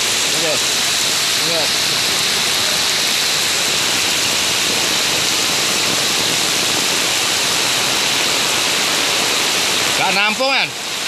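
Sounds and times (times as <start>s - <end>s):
floodwater rushing from storm drain: 0.0s - 11.0s
heavy rain falling: 0.0s - 11.0s.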